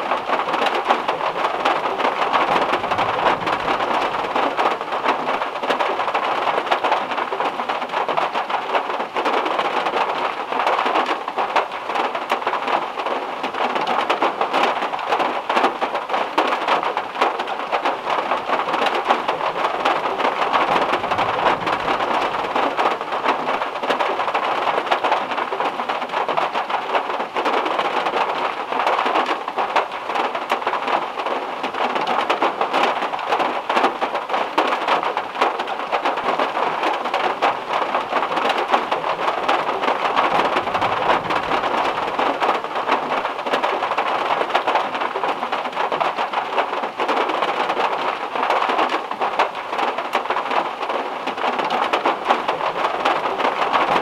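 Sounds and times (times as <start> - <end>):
heavy rain on car roof: 0.0 - 54.0.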